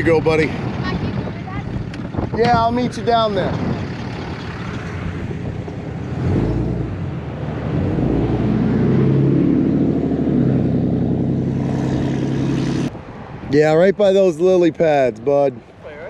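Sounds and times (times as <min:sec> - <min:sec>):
vehicle engine humming: 0:00.0 - 0:13.4.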